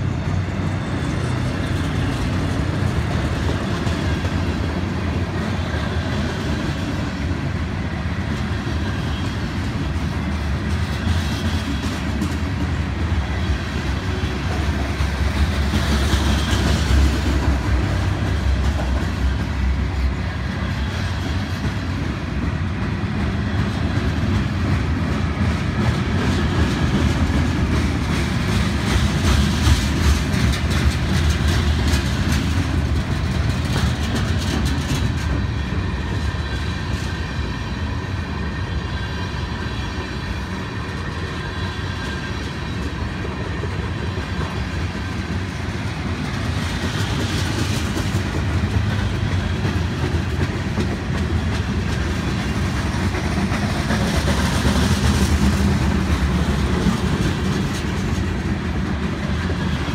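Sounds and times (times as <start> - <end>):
train wheels rumbling on rails: 0.0 - 59.9
wheels clicking over rail joints: 0.6 - 38.5, 39.8 - 59.9.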